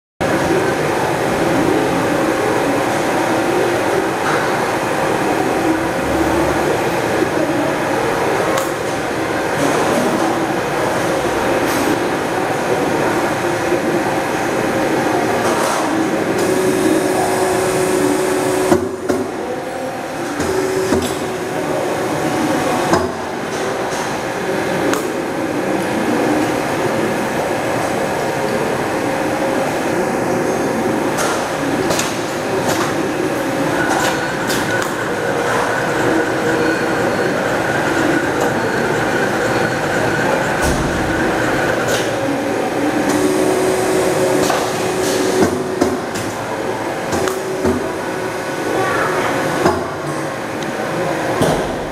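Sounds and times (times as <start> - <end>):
wire machines humming: 0.2 - 51.9.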